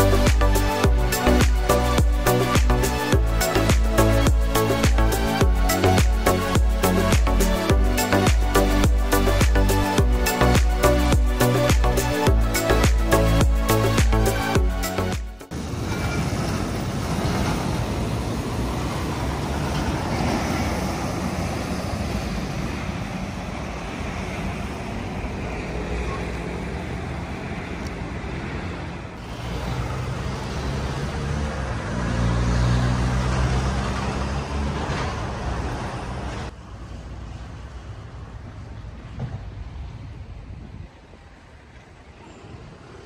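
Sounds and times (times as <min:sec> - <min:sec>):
road traffic passing: 0:00.0 - 0:43.0.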